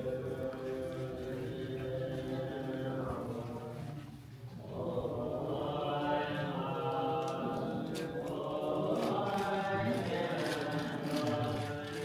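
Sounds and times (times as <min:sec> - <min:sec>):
monks chanting: 0:00.0 - 0:12.0.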